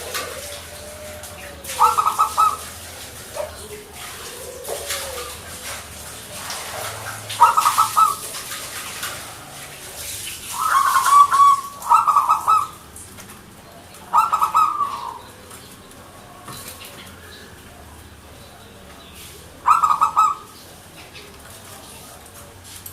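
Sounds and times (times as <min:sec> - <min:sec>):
dove cooing: 0:00.0 - 0:22.4.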